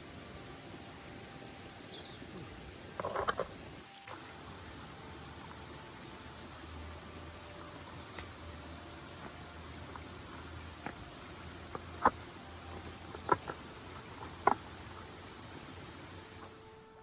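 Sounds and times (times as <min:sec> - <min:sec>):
distant running water: 0:00.0 - 0:17.0
forest ambience: 0:00.0 - 0:17.0.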